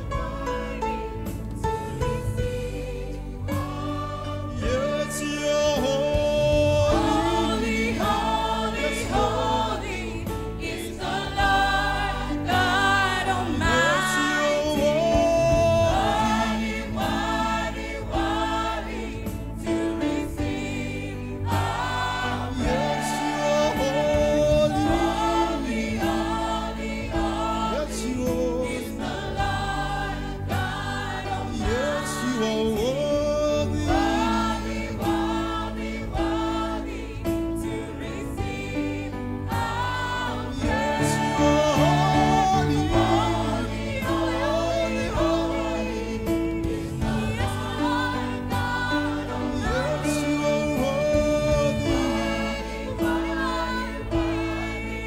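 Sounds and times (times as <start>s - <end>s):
choir singing gospel song: 0.0s - 55.0s
instrumental backing: 0.0s - 55.0s.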